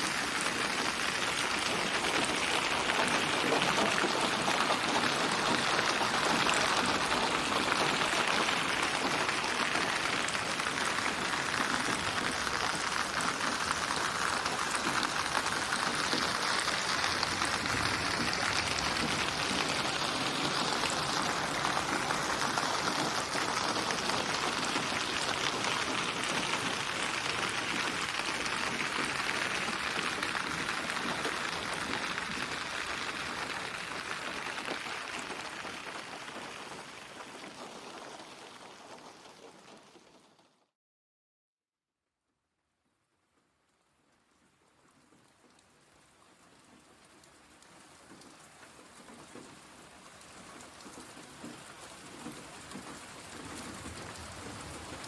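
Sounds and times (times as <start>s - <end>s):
rain patter: 0.0s - 40.7s, 43.2s - 55.0s.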